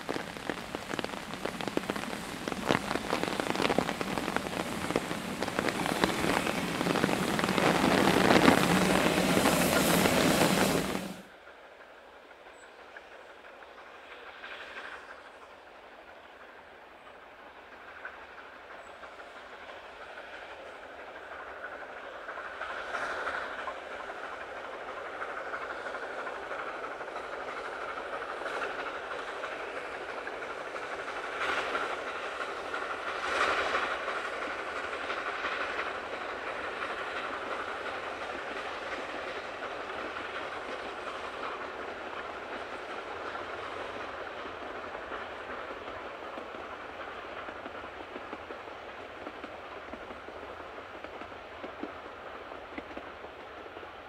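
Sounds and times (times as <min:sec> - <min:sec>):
steam train rumbling on rails: 0:00.0 - 0:54.0.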